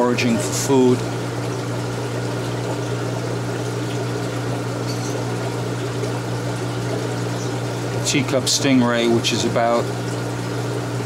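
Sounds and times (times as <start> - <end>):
aquarium pump hum: 0.0 - 11.0
trickling running water: 0.0 - 11.0.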